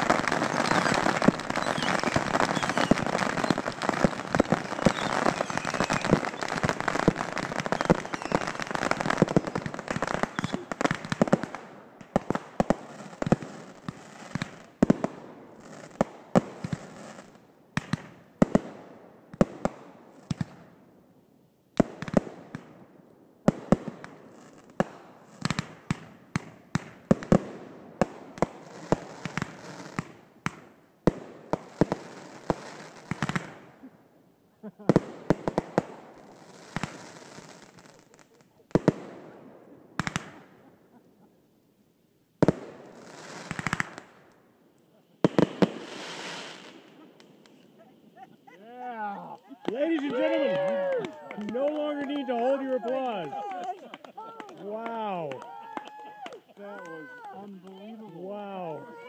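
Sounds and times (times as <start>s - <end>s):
fireworks crackling and banging: 0.0s - 20.8s, 21.7s - 33.9s, 34.6s - 41.3s, 42.4s - 59.0s.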